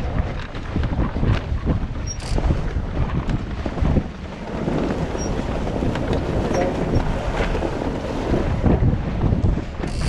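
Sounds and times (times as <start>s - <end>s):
water splashes: 0.0s - 10.0s
wind buffeting microphone: 0.0s - 10.0s.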